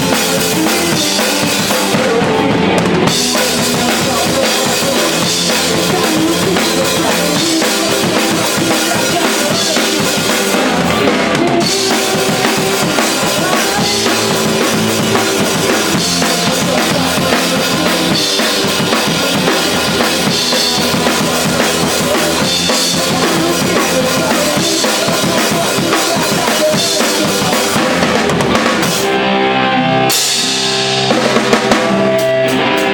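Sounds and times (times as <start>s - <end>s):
drum kit: 0.0s - 32.9s
live band playing: 0.0s - 32.9s.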